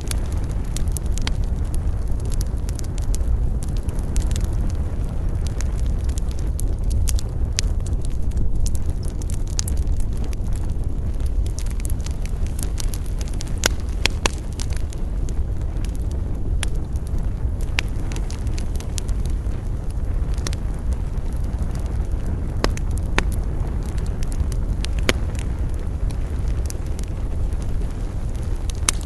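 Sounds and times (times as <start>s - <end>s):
campfire crackling and popping: 0.0s - 29.0s
low fire rumble: 0.0s - 29.0s.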